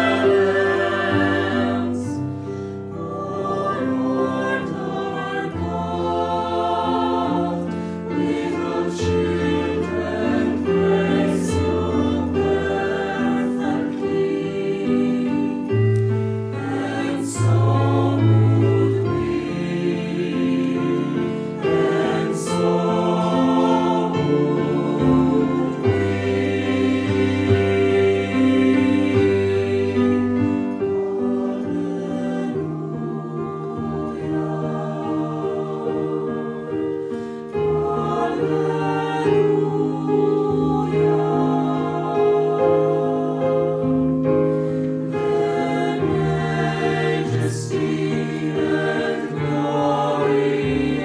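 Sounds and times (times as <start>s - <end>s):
mixed choir singing a carol: 0.0s - 51.0s.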